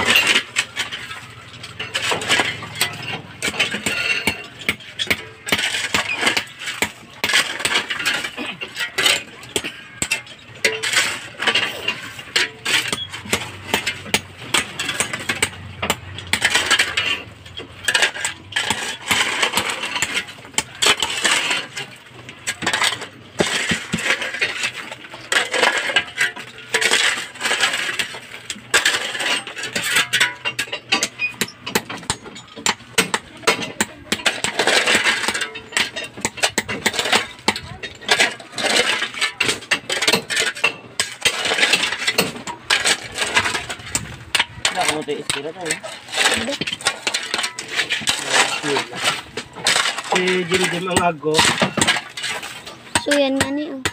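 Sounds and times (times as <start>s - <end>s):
concrete rubble clattering: 0.0s - 53.9s
hammer and chisel chipping concrete: 0.0s - 53.9s.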